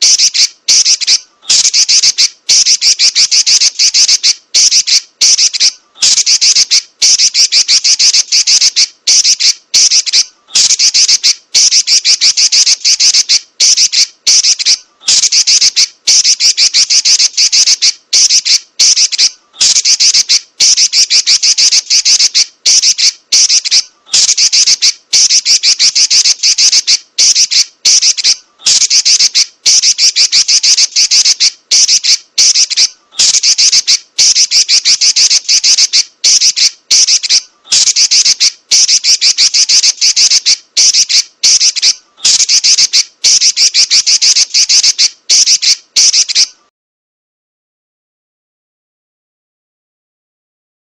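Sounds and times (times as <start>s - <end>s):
bird chattering rattles: 0.0s - 46.5s.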